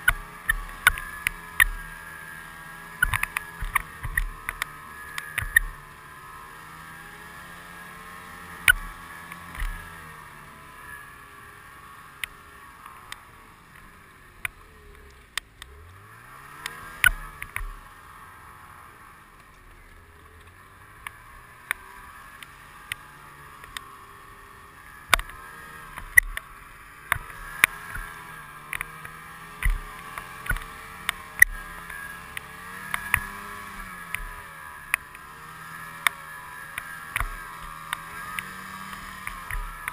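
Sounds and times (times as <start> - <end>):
snowmobile engine: 0.0 - 39.9.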